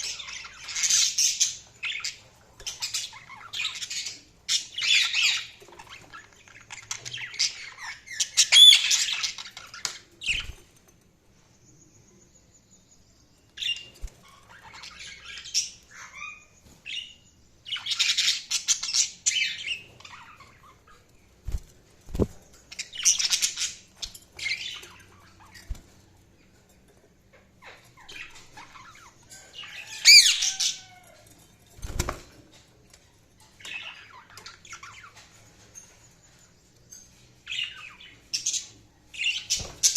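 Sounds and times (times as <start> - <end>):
budgerigars chirping and chattering: 0.0 - 10.7, 13.4 - 21.3, 22.1 - 26.7, 27.3 - 31.1, 32.9 - 39.9.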